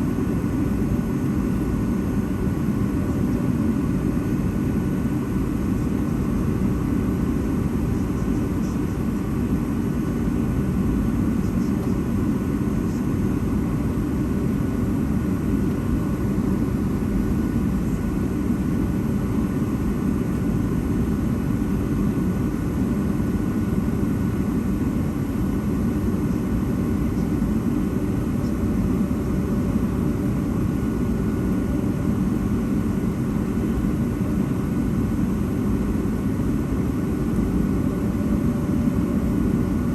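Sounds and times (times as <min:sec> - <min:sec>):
aircraft cabin engine noise: 0:00.0 - 0:39.9.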